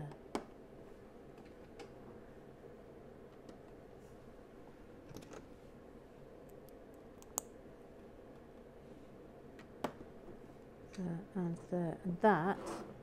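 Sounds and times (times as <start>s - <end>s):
room heater humming: 0.0s - 13.0s.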